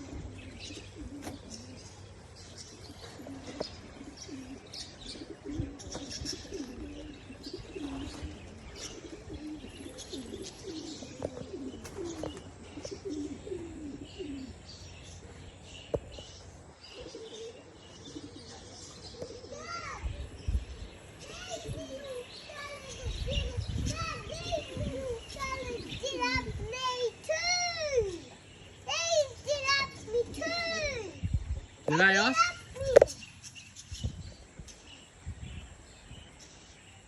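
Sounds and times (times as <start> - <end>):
pigeons cooing: 0.0 - 33.3
small birds chirping: 0.0 - 37.0.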